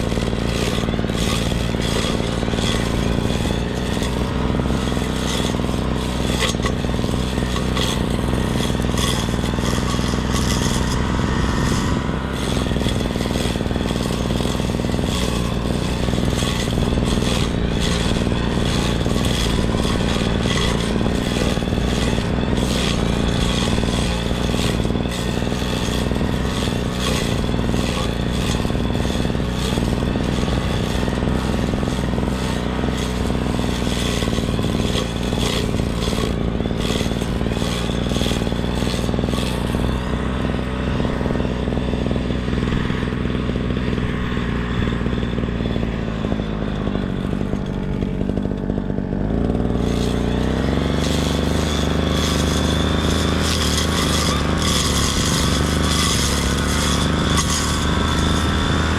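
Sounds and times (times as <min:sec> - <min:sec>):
brush cutter engine running: 0:00.0 - 0:58.9
scraping and clattering cutting grass: 0:00.0 - 0:58.9.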